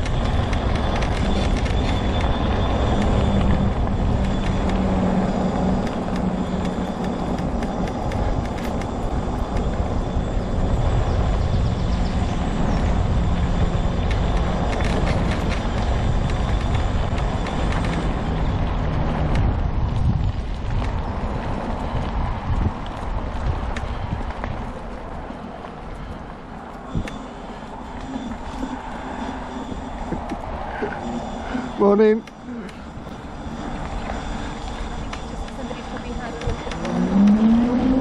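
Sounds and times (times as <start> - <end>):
electric motor whine: 0.0 - 38.0
wheels rumbling on trail: 0.0 - 38.0.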